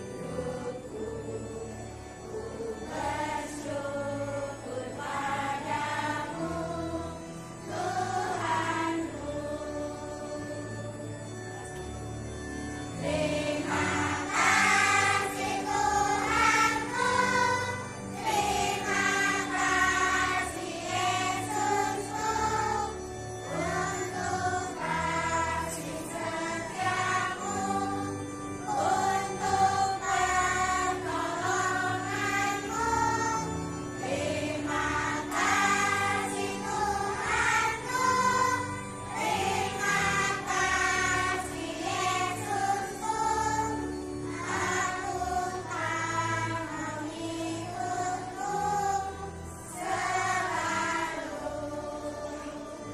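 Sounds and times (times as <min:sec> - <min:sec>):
children's choir singing: 0:00.0 - 0:11.8, 0:12.9 - 0:52.9.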